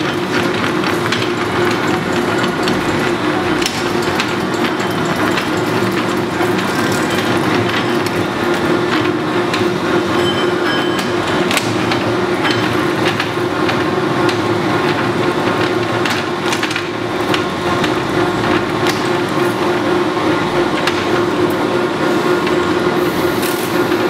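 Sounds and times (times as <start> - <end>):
lathe mechanical hum: 0.0 - 24.0.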